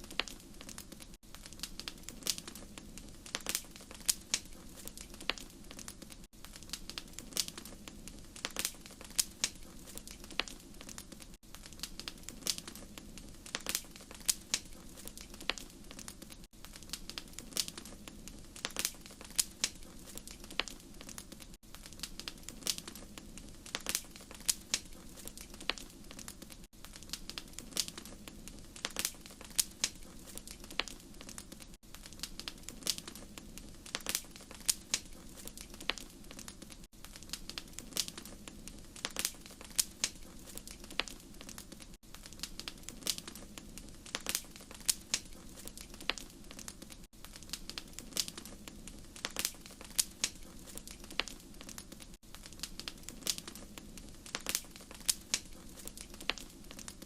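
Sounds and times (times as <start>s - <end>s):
low rush of flames: 0.0s - 57.0s
wood fire popping and snapping: 0.0s - 57.0s.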